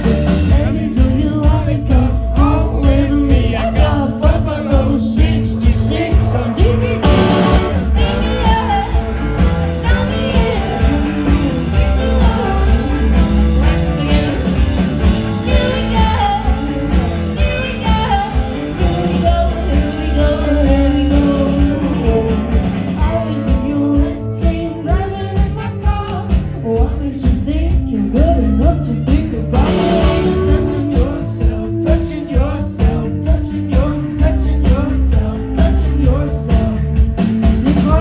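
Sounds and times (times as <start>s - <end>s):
woman singing: 0.0s - 14.8s, 15.4s - 22.4s, 23.0s - 36.9s
live rock band playing: 0.0s - 38.0s.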